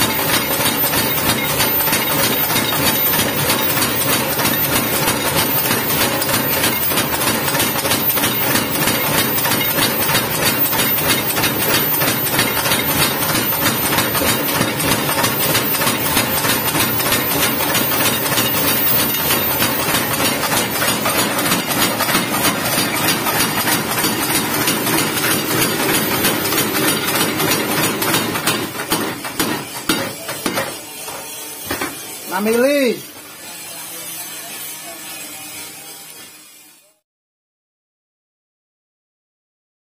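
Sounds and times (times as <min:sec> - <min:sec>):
power hammer pounding steel: 0:00.0 - 0:33.2.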